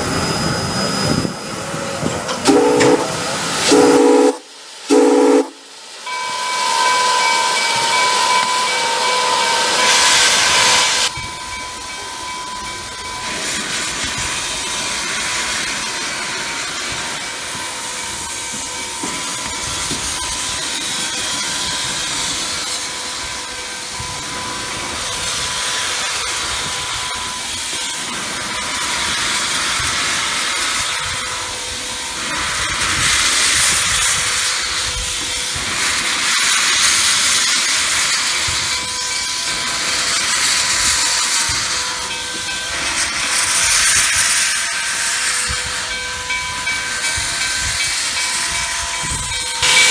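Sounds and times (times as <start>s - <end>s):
steam locomotive hissing steam: 0.0s - 49.9s.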